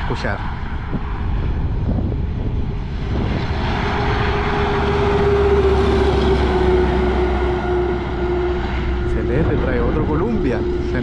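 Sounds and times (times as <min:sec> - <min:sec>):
truck diesel engine approaching: 0:00.0 - 0:11.0.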